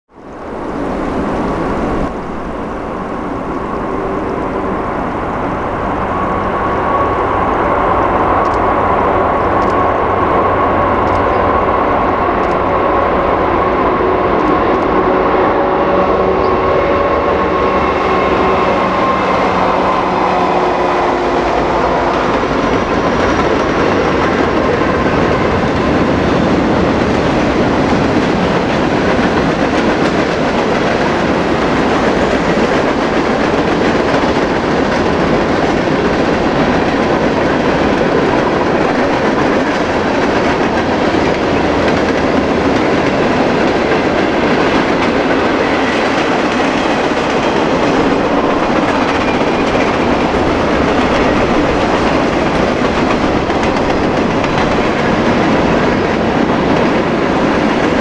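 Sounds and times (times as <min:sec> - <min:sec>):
diesel locomotive engines droning: 0:00.1 - 0:58.0
steel wheels on rail: 0:00.2 - 0:58.0.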